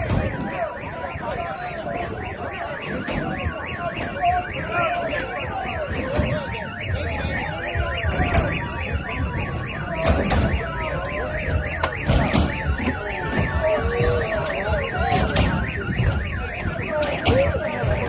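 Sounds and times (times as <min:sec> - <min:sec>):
electronic siren wailing: 0:00.0 - 0:18.0.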